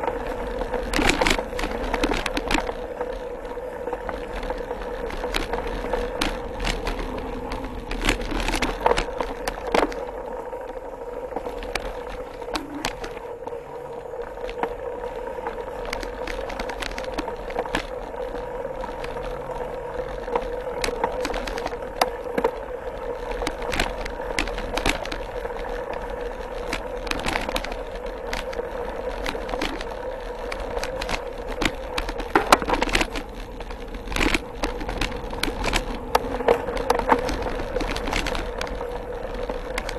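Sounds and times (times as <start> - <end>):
bike rattling and clicking: 0.0 - 39.9
bike tyres rolling on dirt: 0.0 - 39.9
steady hum: 0.0 - 39.9.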